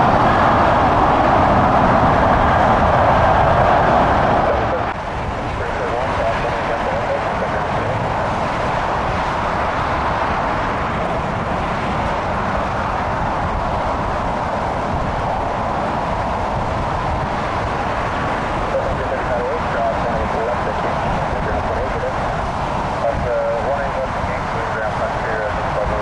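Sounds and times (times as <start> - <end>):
loud rushing noise: 0.0 - 26.0
wind buffeting microphone: 0.0 - 26.0.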